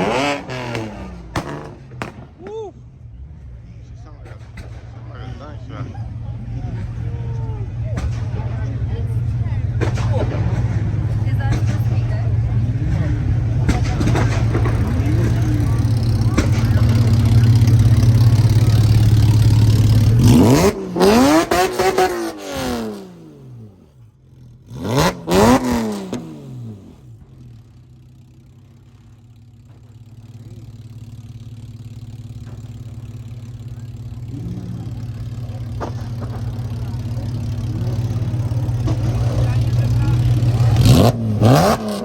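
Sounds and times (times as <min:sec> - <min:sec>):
sports car engine revving: 0:00.0 - 0:42.0.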